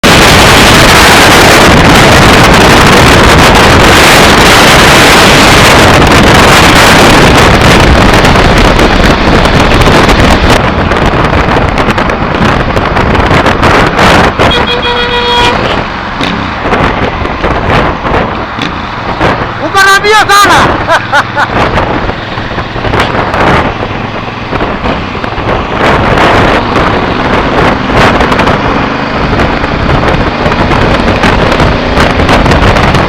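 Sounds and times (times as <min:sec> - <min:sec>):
diesel engine running hard: 0:00.0 - 0:33.0.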